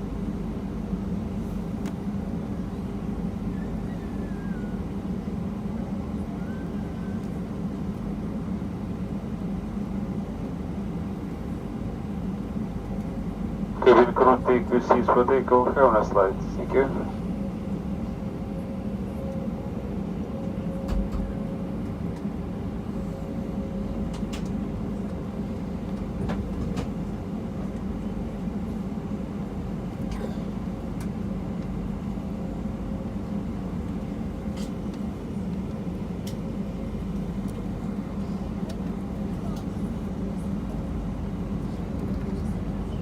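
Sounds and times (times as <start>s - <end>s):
aircraft cabin low hum: 0.0s - 43.0s.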